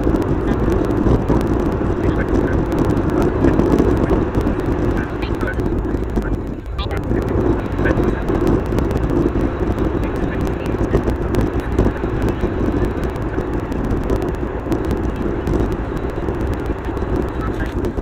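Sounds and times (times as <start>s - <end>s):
car cabin road noise: 0.0s - 18.0s
rapid crackle of small clicks: 0.0s - 18.0s.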